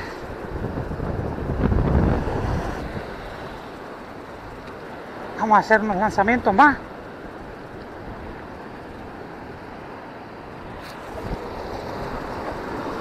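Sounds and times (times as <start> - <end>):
wind buffeting microphone: 0.0 - 5.1, 7.1 - 13.0.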